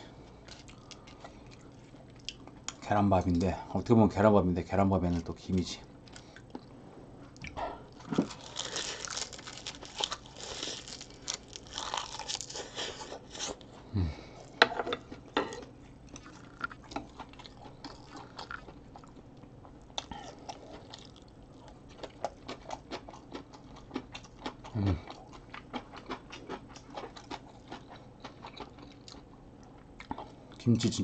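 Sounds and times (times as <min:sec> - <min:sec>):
person chewing crunchy food: 0:00.2 - 0:02.8, 0:06.0 - 0:30.6.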